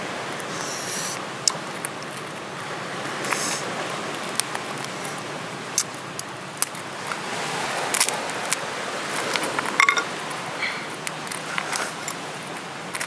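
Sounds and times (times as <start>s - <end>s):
crab shell cracking: 1.2s - 10.1s, 10.9s - 13.0s.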